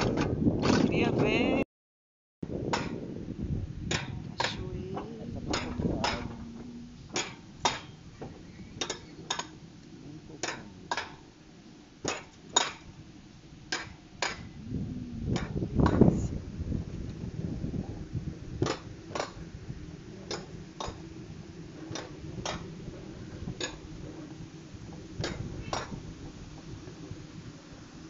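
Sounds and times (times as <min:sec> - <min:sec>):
wheels clicking over rail joints: 0:00.0 - 0:01.3, 0:02.6 - 0:14.5, 0:16.8 - 0:28.0
low rumble: 0:02.4 - 0:12.0, 0:12.9 - 0:28.0.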